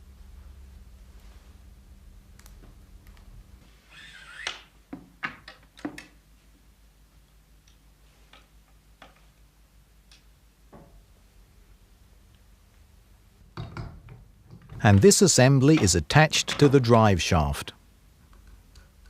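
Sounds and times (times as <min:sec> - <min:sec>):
low steady hum: 0:00.0 - 0:03.8, 0:06.3 - 0:19.0.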